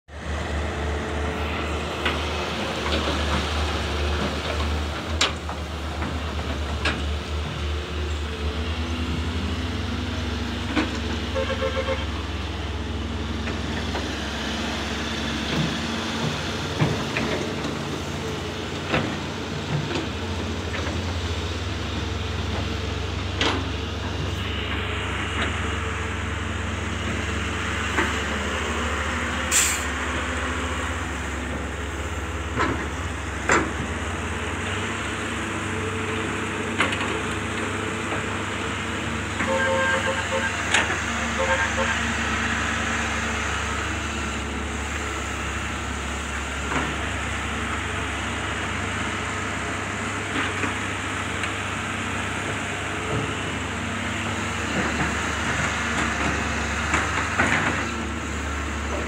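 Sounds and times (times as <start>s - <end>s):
excavator diesel engines droning: 0.1s - 59.0s.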